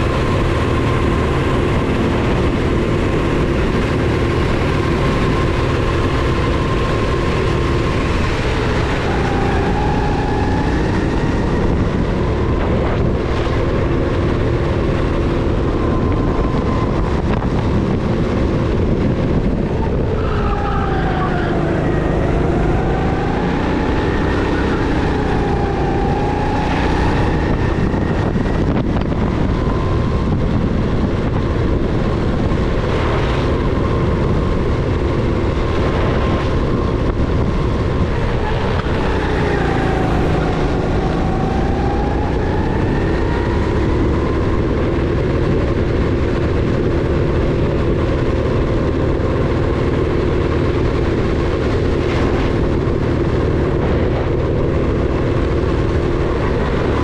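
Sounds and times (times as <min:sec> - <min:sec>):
go-kart engine revving: 0:00.0 - 0:57.0
wind rushing: 0:00.0 - 0:57.0.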